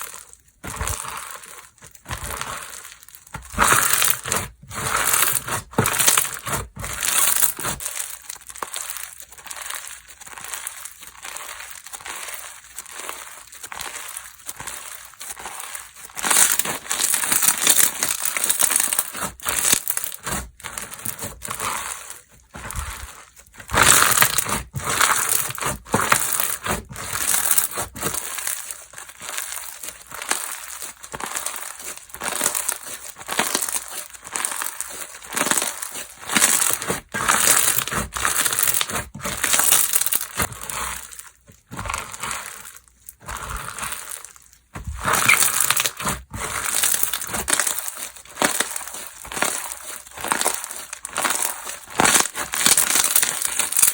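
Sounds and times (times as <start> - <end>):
slime squelching: 0.0 - 53.9.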